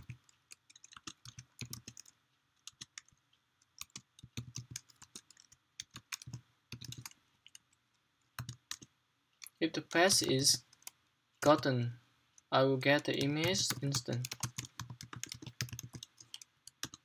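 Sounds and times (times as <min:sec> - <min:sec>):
keyboard typing: 0:00.0 - 0:11.7, 0:13.0 - 0:17.0.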